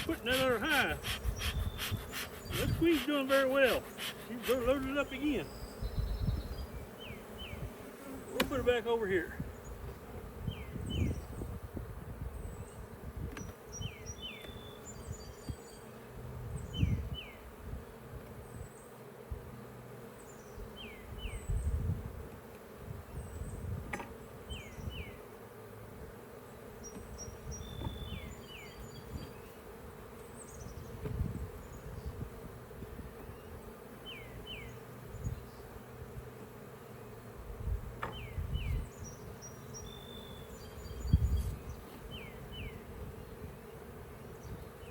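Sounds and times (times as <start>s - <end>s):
honeybees buzzing: 0.0s - 44.9s.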